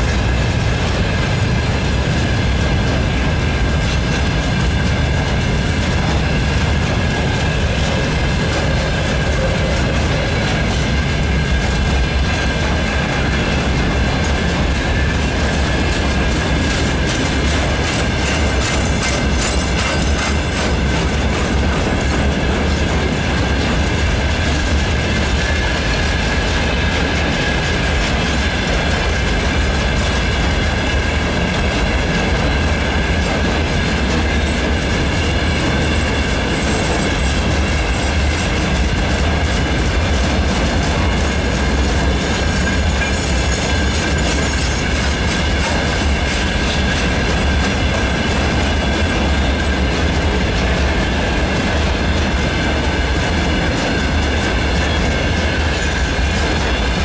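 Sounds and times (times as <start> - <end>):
freight train rumble: 0.0 - 57.0
wheels clattering over rail joints: 0.0 - 57.0.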